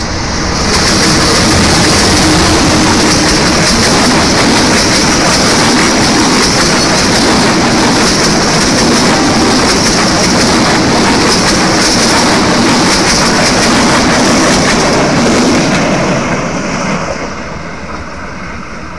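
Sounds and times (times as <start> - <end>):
train passing at speed: 0.0 - 18.9
wheels clicking over rail joints: 0.7 - 16.0.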